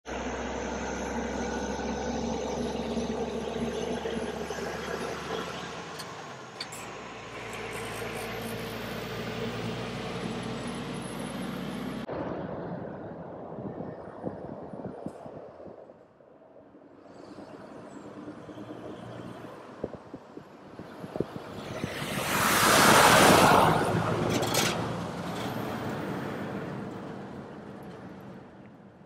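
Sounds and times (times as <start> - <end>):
diesel truck engine drone: 0.0 - 15.9, 16.5 - 29.0
distant road noise: 0.1 - 29.0.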